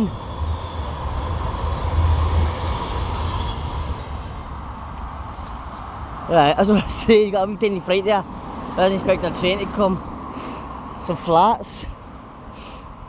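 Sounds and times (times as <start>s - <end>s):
train rumbling past: 0.0s - 11.4s.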